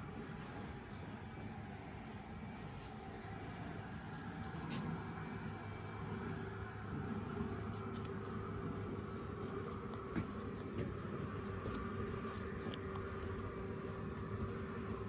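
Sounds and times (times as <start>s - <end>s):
low background hum: 0.0s - 15.0s
rabbit chewing: 0.1s - 15.0s.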